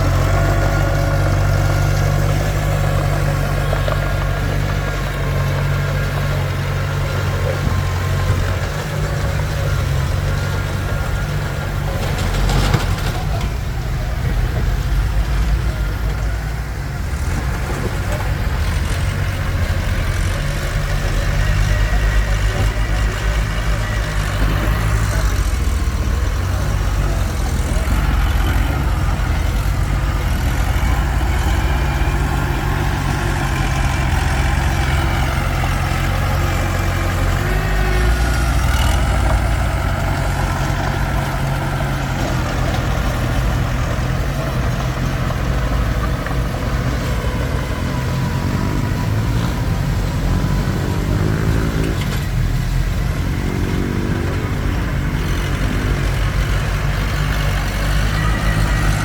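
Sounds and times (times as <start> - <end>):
bulldozer diesel engine running: 0.0 - 59.0
high engine whine: 0.0 - 59.0.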